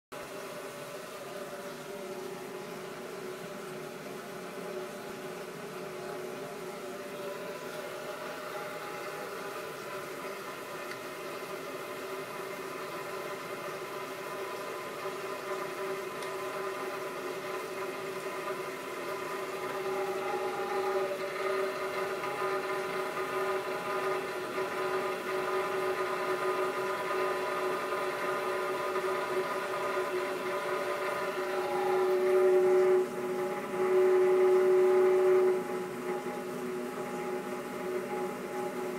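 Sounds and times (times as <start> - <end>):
gas boiler howling: 0.2 - 38.9.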